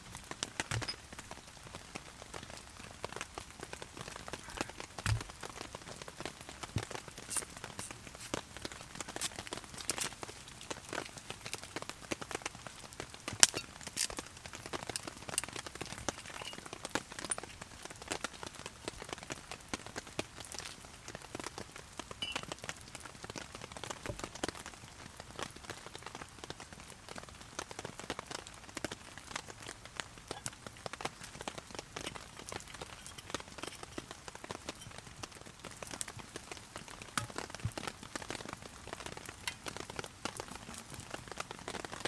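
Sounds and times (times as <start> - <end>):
heavy rain on a tarp: 0.0 - 42.0.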